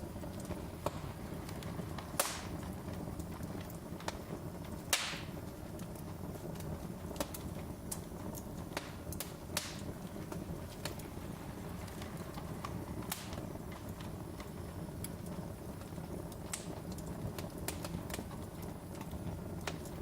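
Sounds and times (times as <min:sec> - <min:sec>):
loud fire pops: 0:00.0 - 0:20.0
wood fire crackling: 0:00.0 - 0:20.0.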